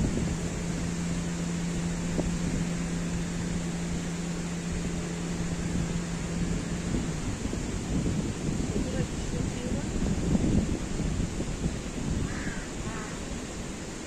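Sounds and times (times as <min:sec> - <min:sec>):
machine humming: 0:00.0 - 0:14.0
rushing hiss: 0:00.0 - 0:14.0.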